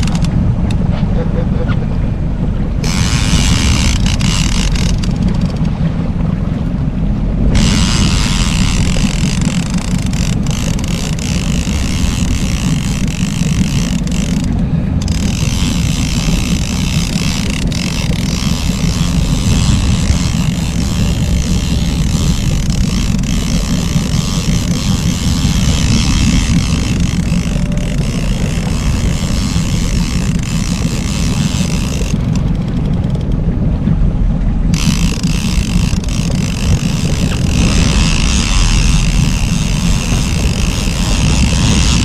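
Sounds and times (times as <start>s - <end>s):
boat motor rumble: 0.0s - 42.0s
wind buffeting microphone: 0.0s - 42.0s.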